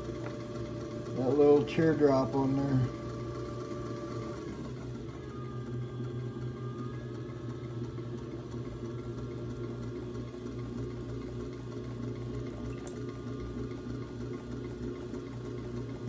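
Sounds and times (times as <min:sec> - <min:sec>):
pottery wheel humming: 0:00.0 - 0:16.0.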